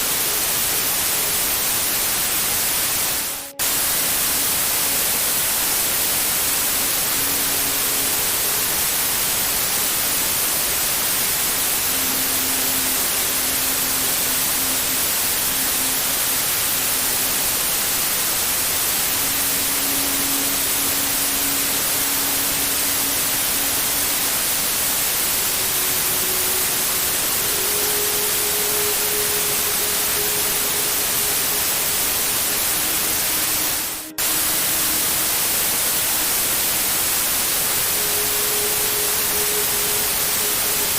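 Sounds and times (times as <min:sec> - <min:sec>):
steady white-noise hiss: 0:00.0 - 0:40.9.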